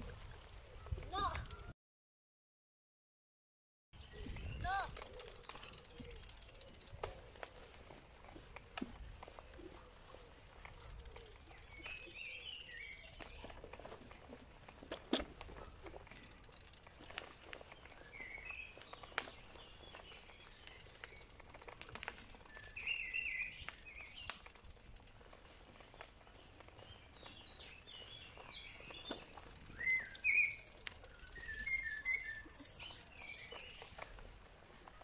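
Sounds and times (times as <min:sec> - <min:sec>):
songbirds singing and chirping: 0:04.0 - 0:14.4, 0:16.2 - 0:35.0.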